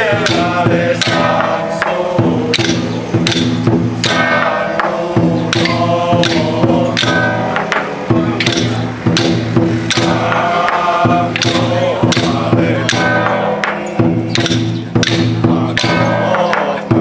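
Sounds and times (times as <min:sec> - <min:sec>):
percussion strikes: 0:00.0 - 0:17.0.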